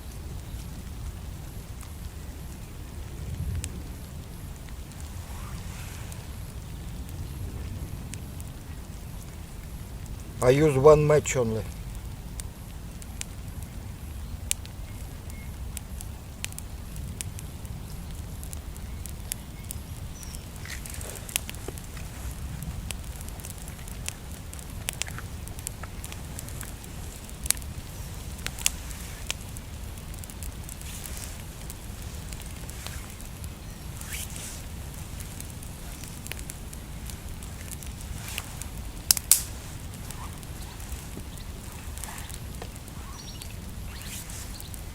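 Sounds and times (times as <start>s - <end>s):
steady low rumble: 0.0s - 10.5s, 11.6s - 44.9s
campfire crackling and popping: 0.0s - 44.9s.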